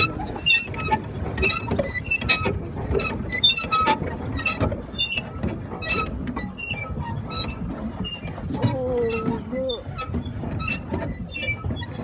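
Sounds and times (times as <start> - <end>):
metal fittings squeaking: 0.0 - 12.0.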